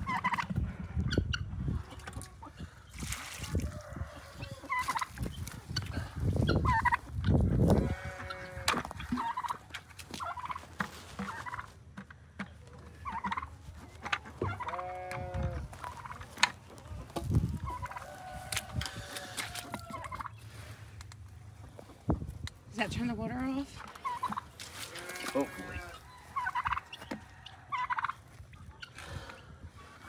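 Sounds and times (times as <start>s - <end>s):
turkeys gobbling: 0.0s - 2.9s, 3.6s - 22.2s, 23.8s - 30.0s.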